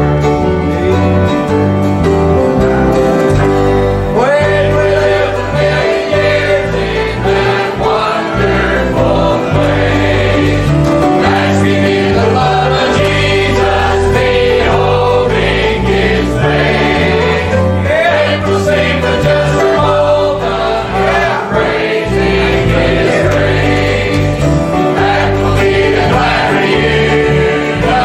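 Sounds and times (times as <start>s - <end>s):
instrumental accompaniment: 0.0s - 28.0s
choir singing a hymn: 2.7s - 28.0s.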